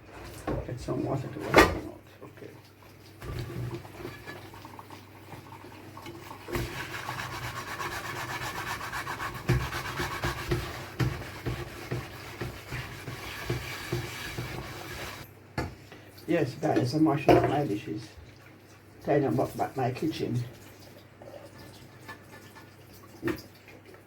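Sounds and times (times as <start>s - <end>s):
running tap water: 0.0s - 15.3s, 16.0s - 24.0s
scrubbing dishes: 0.0s - 15.8s, 16.6s - 24.0s.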